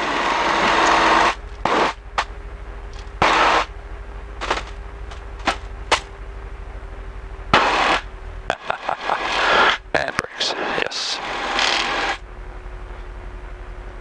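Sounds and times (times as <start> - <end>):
light aircraft engine idling: 0.0 - 14.0.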